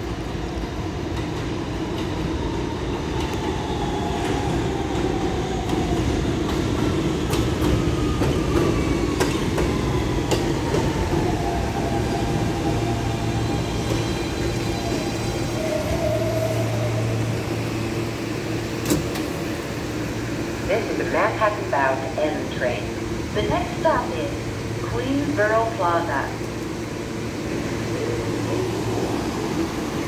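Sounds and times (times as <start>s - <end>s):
subway train propulsion whine: 0.0s - 30.0s.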